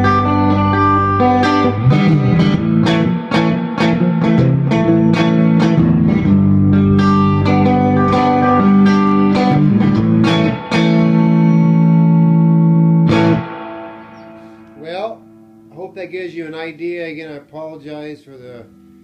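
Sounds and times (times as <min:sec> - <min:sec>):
loud distorted electric guitar: 0:00.0 - 0:16.6.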